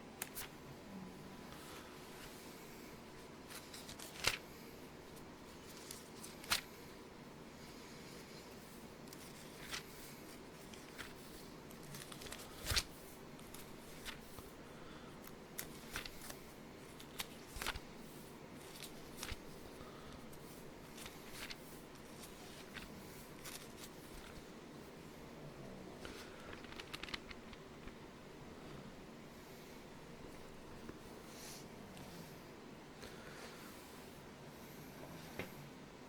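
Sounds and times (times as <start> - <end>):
faint background hum: 0.0 - 36.0.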